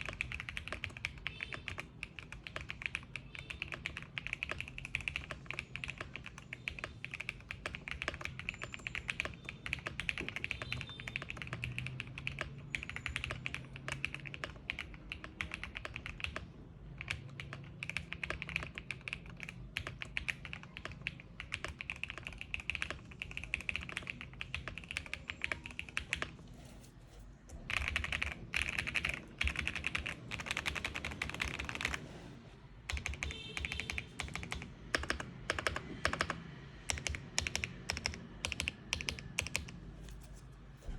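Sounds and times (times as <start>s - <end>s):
mechanical keyboard typing: 0.0s - 26.7s, 27.5s - 32.1s, 32.8s - 40.9s.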